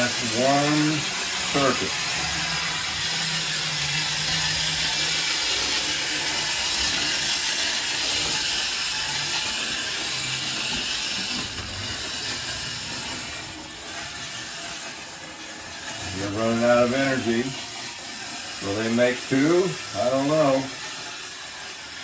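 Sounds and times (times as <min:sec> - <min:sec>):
clockwork motor whirring: 0:00.0 - 0:22.0
toy wheels rattling on rails: 0:00.0 - 0:22.0.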